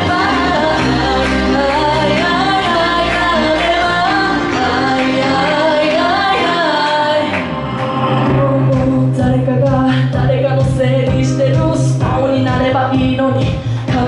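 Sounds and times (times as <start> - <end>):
pop music with beat and bass: 0.0 - 14.0
woman singing into microphone: 0.0 - 14.0.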